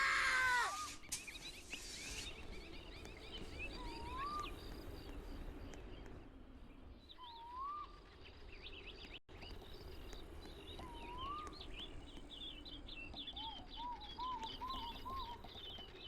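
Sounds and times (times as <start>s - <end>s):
birds chirping and calling: 0.1s - 6.2s, 6.8s - 16.0s.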